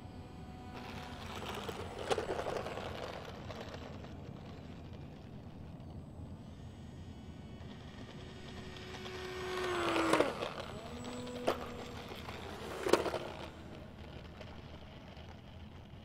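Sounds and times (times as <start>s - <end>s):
model jets rushing past: 0.0s - 16.0s.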